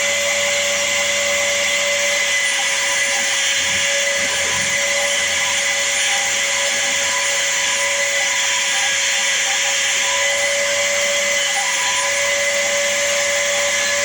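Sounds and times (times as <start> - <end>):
power sander whining: 0.0 - 14.0.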